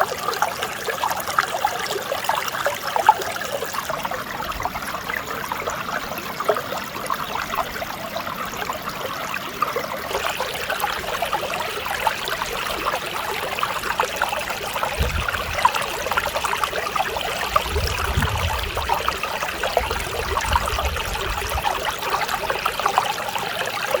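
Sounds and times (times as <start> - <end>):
stream flowing over rocks: 0.0 - 24.0.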